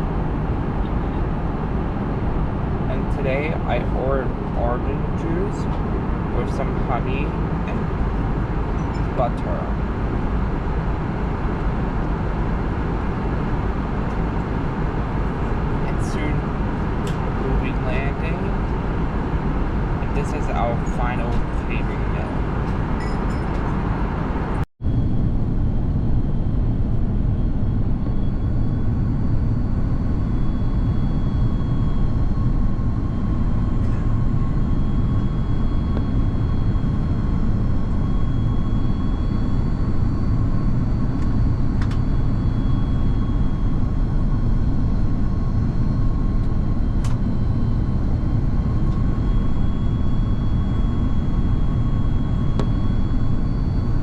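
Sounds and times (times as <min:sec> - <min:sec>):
airliner cabin engine roar: 0:00.0 - 0:54.0
faint steady whines: 0:00.0 - 0:54.0.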